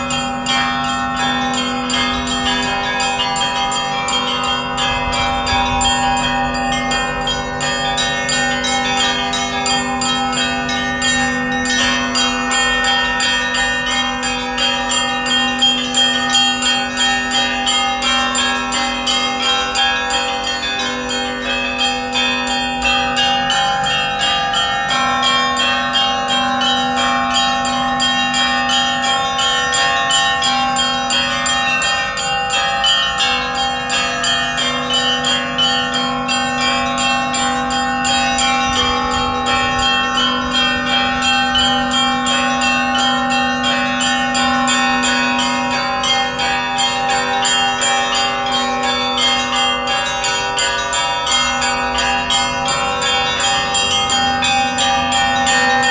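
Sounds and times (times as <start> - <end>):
large bells ringing: 0.0 - 55.9
small church bells pealing: 0.0 - 55.9.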